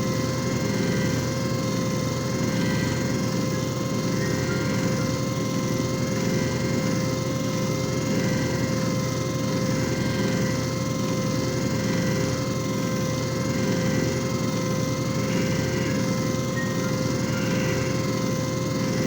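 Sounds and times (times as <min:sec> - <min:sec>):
machine motor hum with whine: 0:00.0 - 0:19.0.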